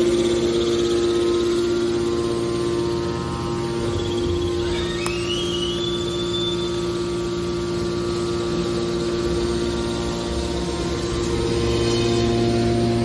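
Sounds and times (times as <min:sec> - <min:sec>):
hydraulic power unit humming: 0:00.0 - 0:13.0
rising whine: 0:00.0 - 0:13.0.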